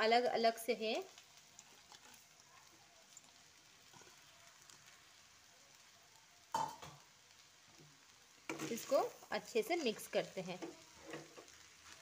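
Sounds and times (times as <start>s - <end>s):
noodles crackling in a wok: 0.0s - 12.0s.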